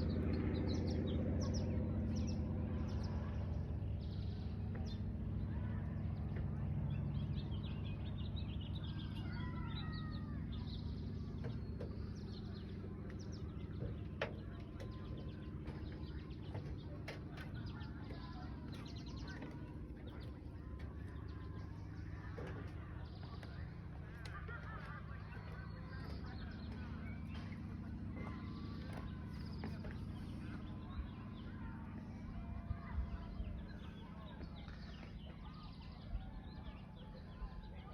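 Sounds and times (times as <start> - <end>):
birds chirping: 0.0 - 37.9
steady low rumble: 0.0 - 37.9.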